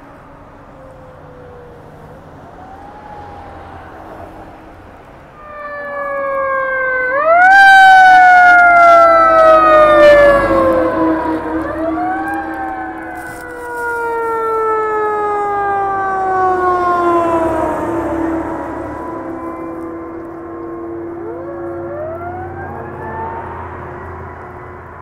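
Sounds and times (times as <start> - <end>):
fire engine siren: 0.0 - 25.0.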